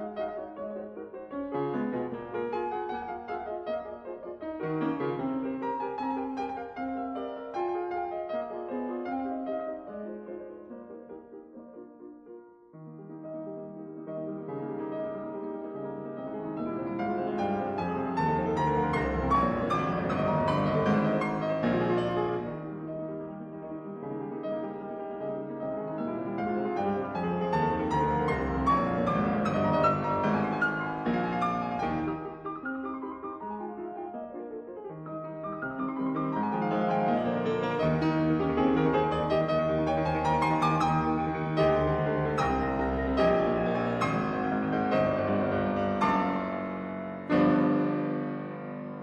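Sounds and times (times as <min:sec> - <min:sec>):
solo piano music: 0:00.0 - 0:49.0.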